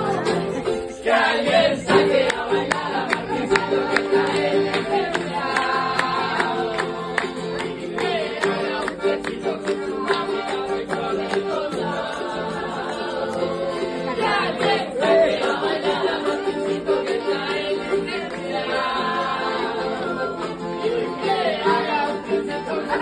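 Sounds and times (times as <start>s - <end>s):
group singing: 0.0s - 23.0s
strummed acoustic guitars: 0.0s - 23.0s.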